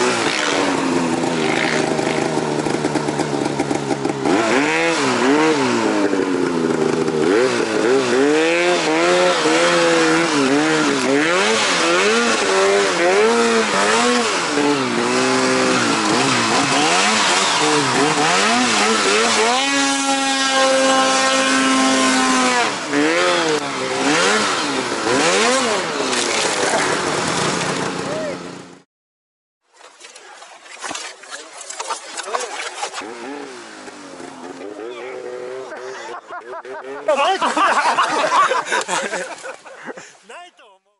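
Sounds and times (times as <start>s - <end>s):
snowmobile engine revving: 0.0s - 28.8s, 31.8s - 40.1s.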